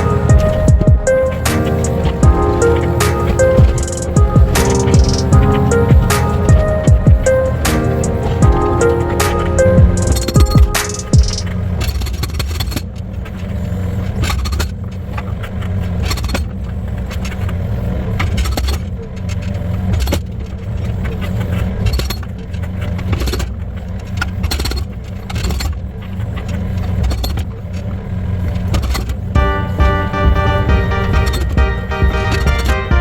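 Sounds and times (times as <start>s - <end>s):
excavator engine running: 0.0s - 33.0s.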